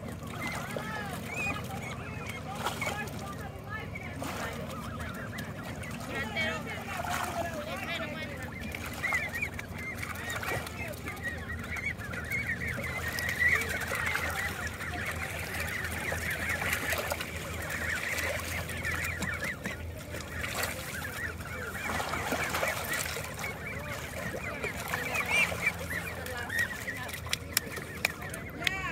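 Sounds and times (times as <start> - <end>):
ducks calling: 0.0 - 28.9.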